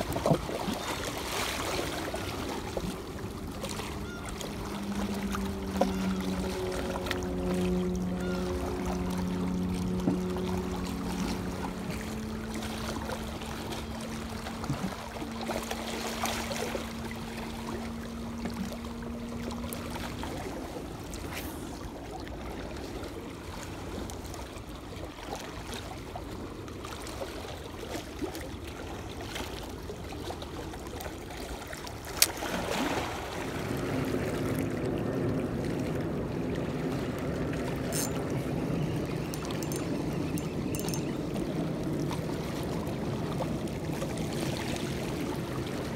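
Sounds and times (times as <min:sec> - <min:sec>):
low steady hum: 0:00.0 - 0:45.9
water lapping against hull: 0:00.0 - 0:45.9.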